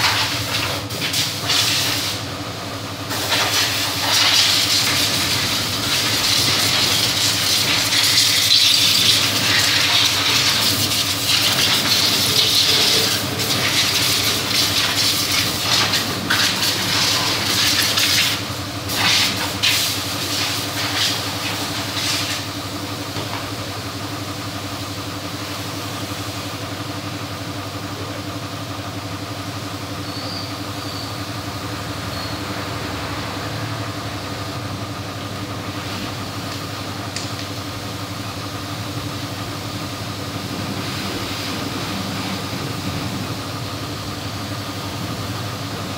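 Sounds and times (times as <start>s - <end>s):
steady motor hum: 0.0s - 45.9s.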